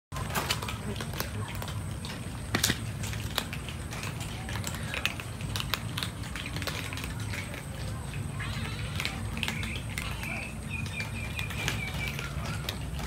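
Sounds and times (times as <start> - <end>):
cats crunching dry kibble: 0.1 - 13.0.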